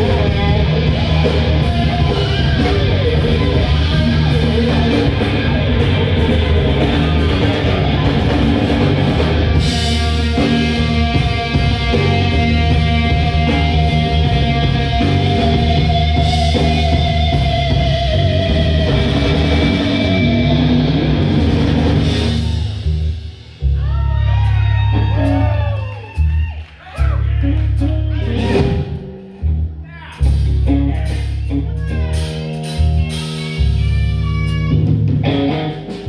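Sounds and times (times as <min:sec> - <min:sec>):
sliding swooping guitar: 0:00.0 - 0:23.2, 0:27.4 - 0:36.0
electric guitar lead: 0:00.0 - 0:26.4, 0:27.0 - 0:36.0
bass guitar: 0:00.0 - 0:36.0
drum kit: 0:00.0 - 0:36.0.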